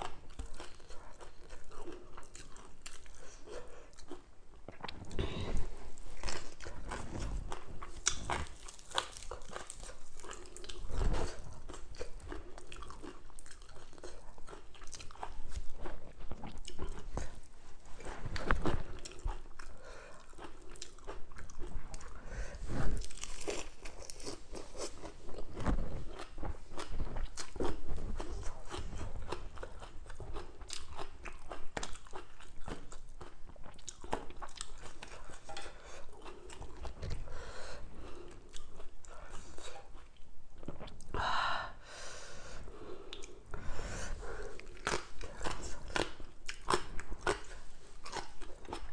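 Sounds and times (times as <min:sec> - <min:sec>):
person crunching raw vegetables: 0:00.0 - 0:37.3, 0:44.1 - 0:48.9.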